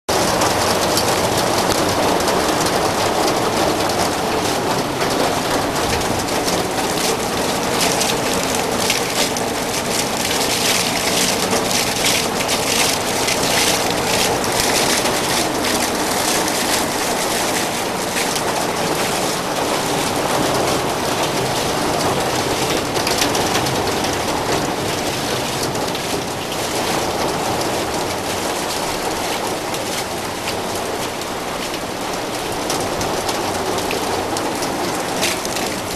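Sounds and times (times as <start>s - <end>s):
sharp raindrop impacts: 0.1s - 35.9s.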